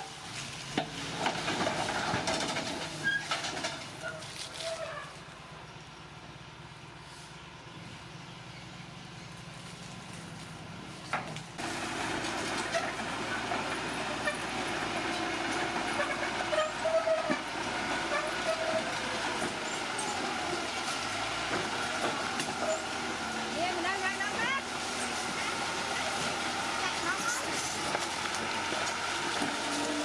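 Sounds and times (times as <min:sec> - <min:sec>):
bulldozer engine hum: 0:00.0 - 0:30.0
crawler tracks clanking and squealing: 0:00.4 - 0:05.7, 0:11.0 - 0:30.0.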